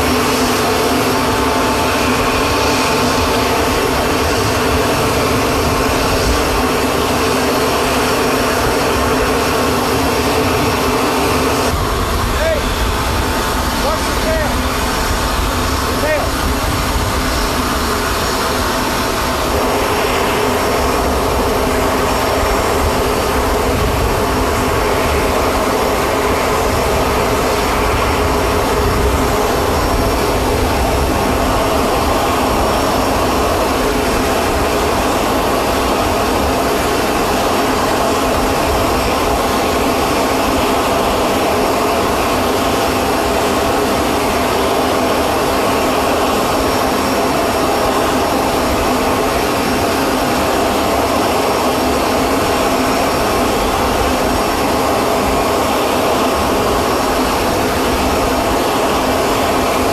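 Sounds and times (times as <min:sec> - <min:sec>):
jet turbine whine and rumble: 0:00.0 - 0:59.9.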